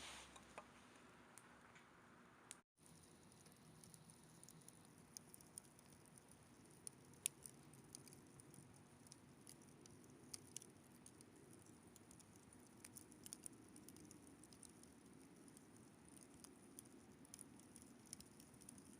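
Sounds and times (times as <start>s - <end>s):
campfire crackling: 2.5s - 18.9s.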